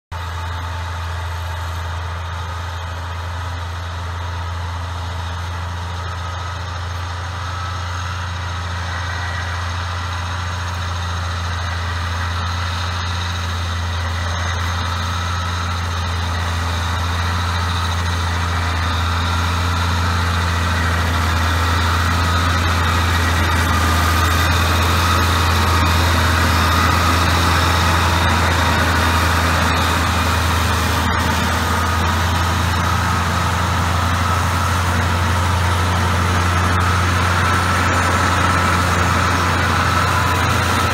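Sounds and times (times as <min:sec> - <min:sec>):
tractor diesel engine under load: 0:00.0 - 0:40.9
mower running: 0:00.1 - 0:40.9.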